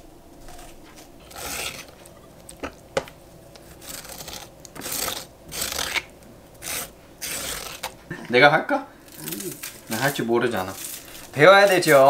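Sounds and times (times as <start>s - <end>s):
spoon scraping cucumber seeds: 0.4s - 2.9s, 3.5s - 8.0s, 9.1s - 12.0s.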